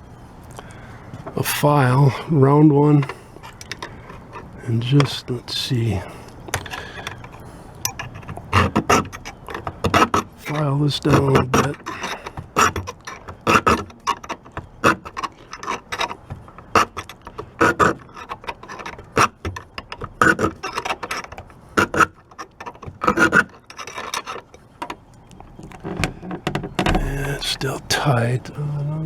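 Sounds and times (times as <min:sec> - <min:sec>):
file rasping against metal latch: 0:01.2 - 0:27.8.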